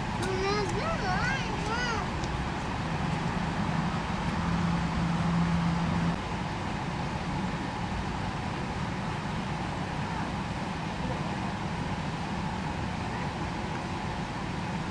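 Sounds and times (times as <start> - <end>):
low hum: 0.0 - 13.3
low background rumble: 0.0 - 14.9.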